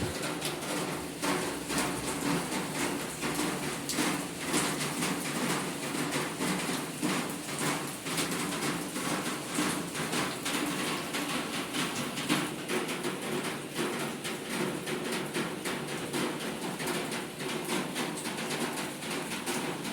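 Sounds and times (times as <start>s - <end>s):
raindrops tapping hard surfaces: 0.0s - 19.9s
steady rain falling: 0.0s - 19.9s.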